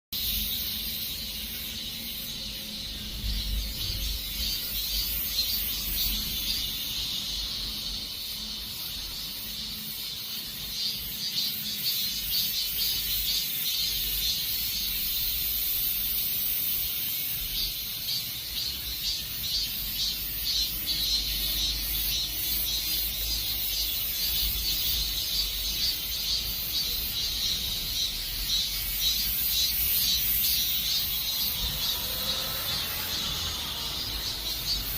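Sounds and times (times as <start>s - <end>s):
cicadas buzzing: 0.1s - 34.9s.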